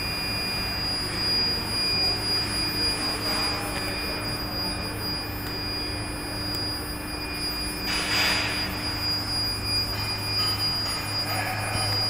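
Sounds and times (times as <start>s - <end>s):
induction furnace whine: 0.0s - 12.0s.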